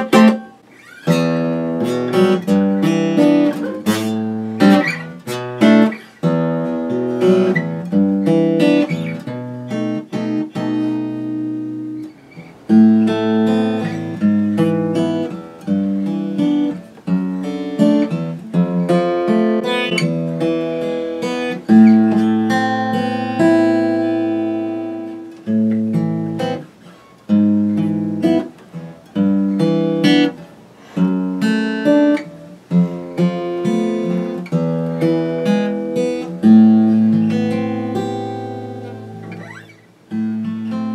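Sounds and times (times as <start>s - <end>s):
acoustic guitar playing chords: 0.0s - 40.9s.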